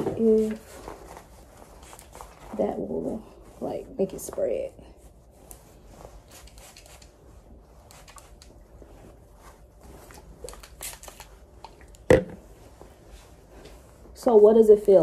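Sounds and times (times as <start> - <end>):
hair rustling: 0.0 - 15.0.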